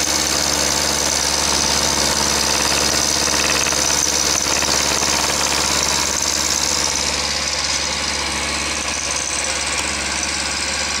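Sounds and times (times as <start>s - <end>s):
milling machine cutting steel: 0.0s - 11.0s
motor hum: 0.0s - 11.0s.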